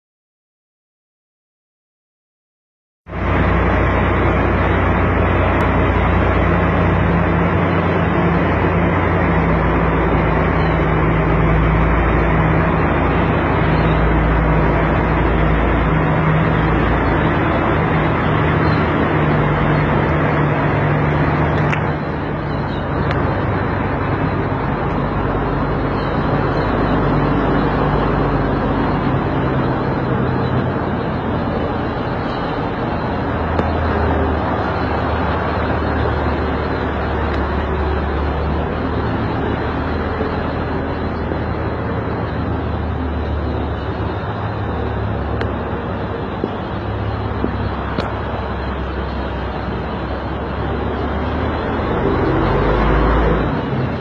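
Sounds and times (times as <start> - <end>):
steady rushing noise: 3.1 - 54.0
truck engine humming: 3.1 - 54.0.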